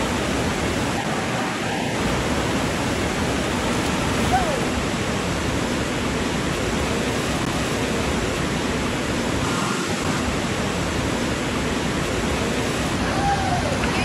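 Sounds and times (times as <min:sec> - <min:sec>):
water streaming down slide: 0:00.0 - 0:14.0.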